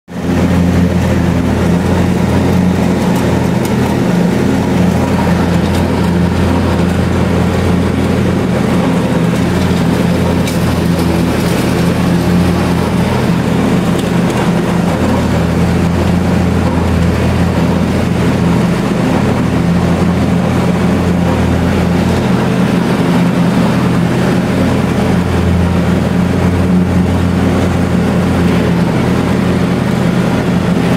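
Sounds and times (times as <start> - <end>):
lawn tractor engine running: 0.1 - 30.9.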